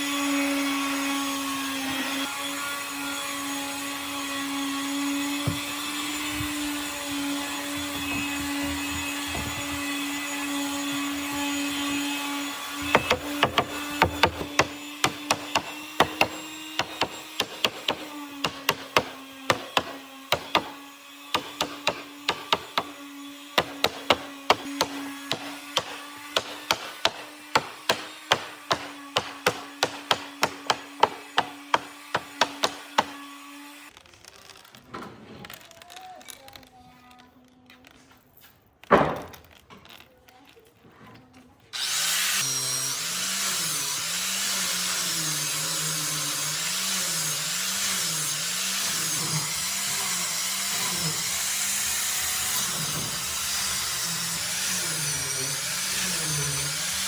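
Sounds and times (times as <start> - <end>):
power tool motor humming: 0.0 - 34.6, 41.7 - 57.0.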